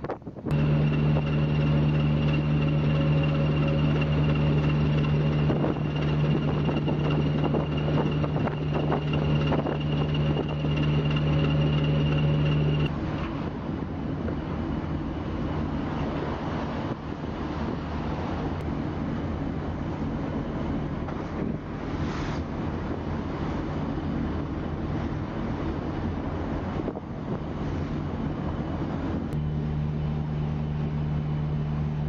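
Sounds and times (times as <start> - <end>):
engine drone with high whine: 0.0 - 32.0.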